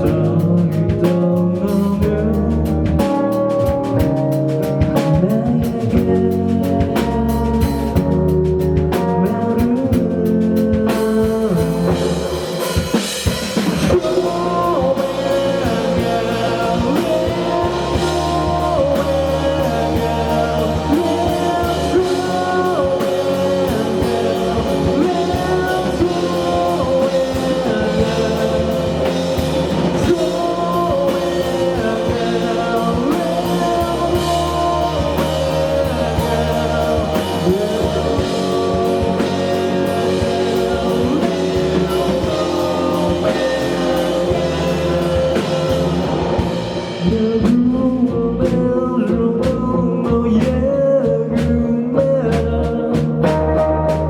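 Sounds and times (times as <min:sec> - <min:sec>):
drum kit: 0:00.0 - 0:54.0
guitars and bass: 0:00.0 - 0:54.0
person singing: 0:00.0 - 0:54.0.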